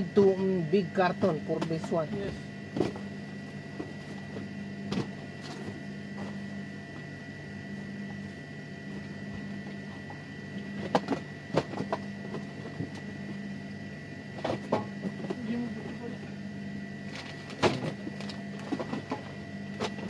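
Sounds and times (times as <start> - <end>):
refrigerator electrical hum: 0.0 - 20.0.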